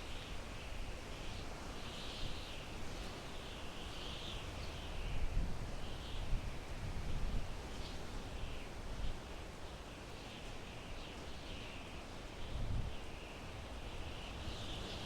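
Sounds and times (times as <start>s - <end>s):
wind through pine trees: 0.0s - 15.0s.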